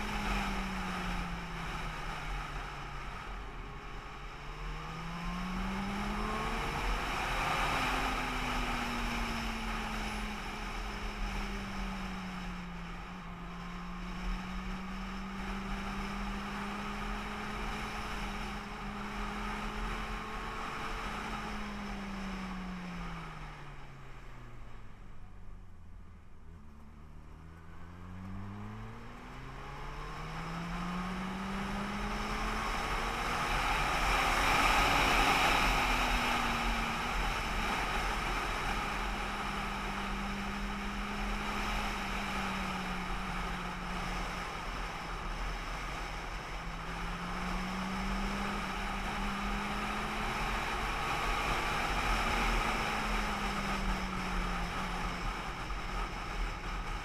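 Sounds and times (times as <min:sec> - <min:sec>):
car engine revving and cruising: 0:00.0 - 0:57.0
road and wind noise: 0:00.0 - 0:57.0.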